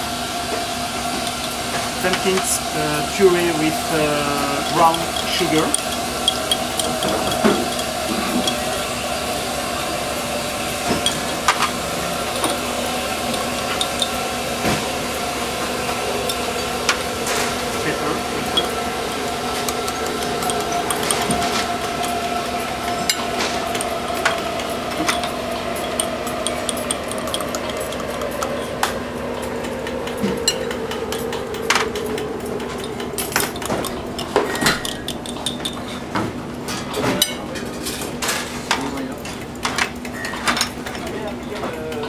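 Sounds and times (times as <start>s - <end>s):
kitchen equipment hum: 0.0s - 42.0s
utensils and dishes clinking: 1.1s - 42.0s.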